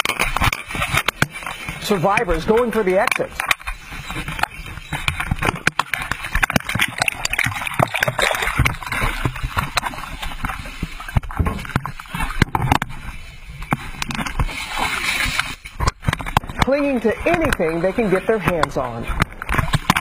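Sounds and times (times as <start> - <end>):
knocks and rustles on microphone: 0.0 - 17.7
seawater splashing and sloshing: 0.0 - 20.0.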